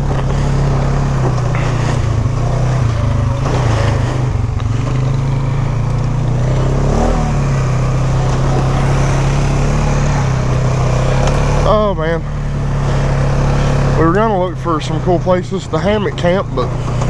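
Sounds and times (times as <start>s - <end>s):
single-cylinder engine running: 0.0s - 17.0s.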